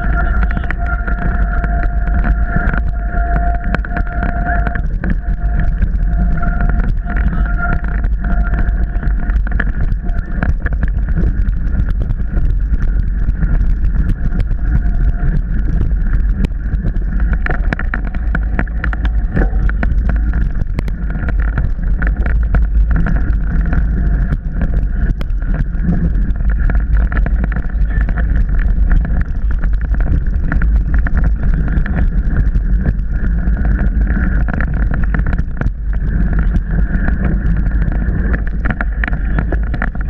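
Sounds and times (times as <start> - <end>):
bike clicks and rattles: 0.0 - 40.0
wind rumble on microphone: 0.0 - 40.0.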